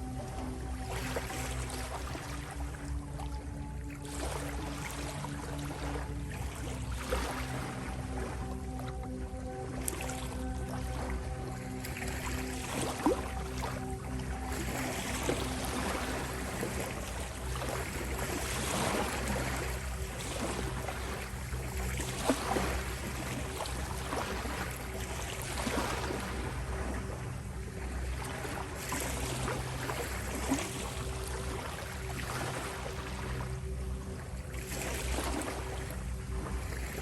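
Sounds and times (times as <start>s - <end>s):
soft low drone: 0.0s - 37.0s.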